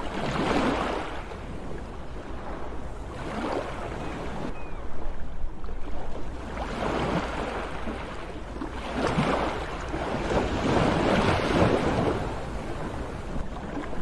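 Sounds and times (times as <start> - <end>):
sea waves washing in: 0.0 - 14.0.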